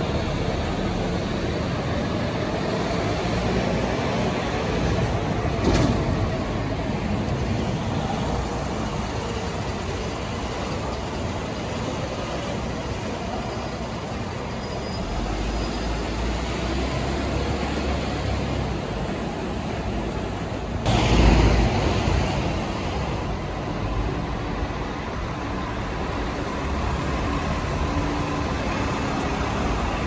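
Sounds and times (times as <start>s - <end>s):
diesel bus driving past: 0.0s - 30.0s.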